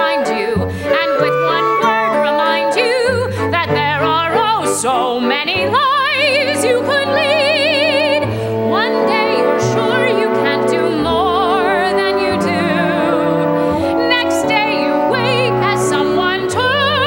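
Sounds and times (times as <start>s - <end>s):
orchestra playing show music: 0.0s - 17.0s.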